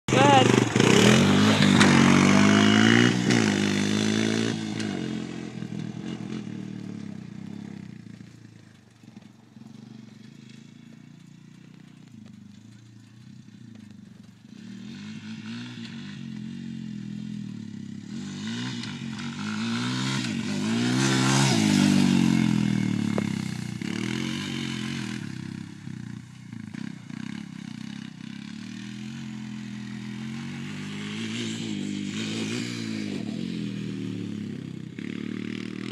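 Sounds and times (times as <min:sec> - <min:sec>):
quad bike engine revving: 0:00.0 - 0:35.9.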